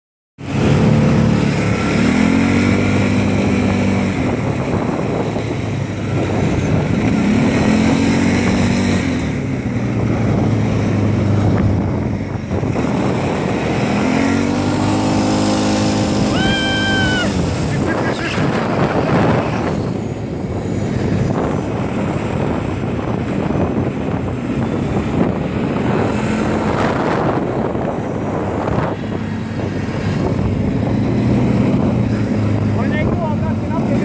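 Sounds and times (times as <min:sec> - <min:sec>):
quad bike engine accelerating: 0:00.4 - 0:34.0.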